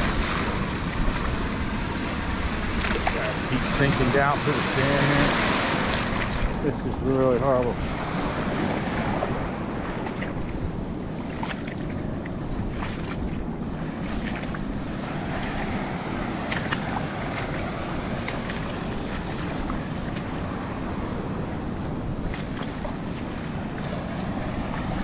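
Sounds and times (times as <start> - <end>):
small waves washing ashore: 0.0 - 25.0
wind rumble on microphone: 0.0 - 25.0.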